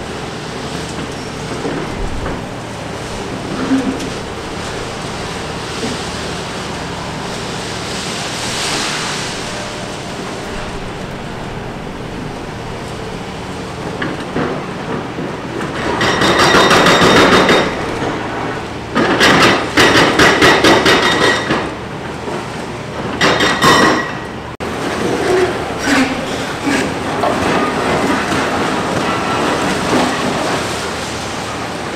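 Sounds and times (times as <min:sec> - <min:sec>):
excavator engine running: 0:00.0 - 0:31.9.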